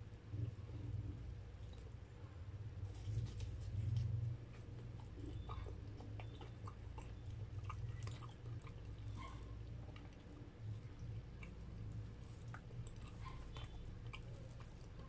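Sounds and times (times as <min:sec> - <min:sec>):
chewing mouth sounds: 0:02.8 - 0:15.0.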